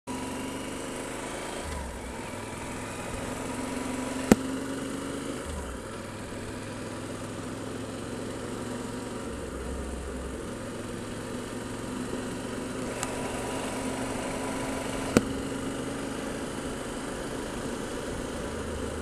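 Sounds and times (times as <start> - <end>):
motorcycle engine running: 0.1 - 19.0.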